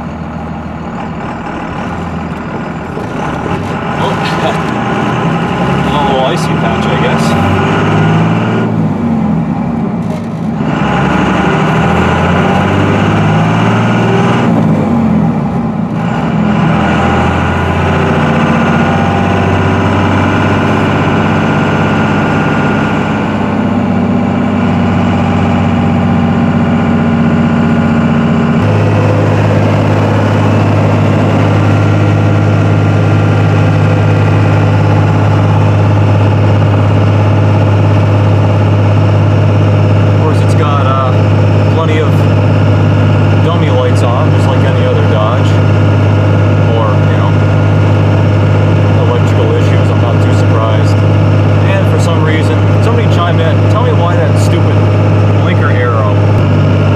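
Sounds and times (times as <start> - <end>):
diesel truck engine from inside cab: 0.0 - 56.9.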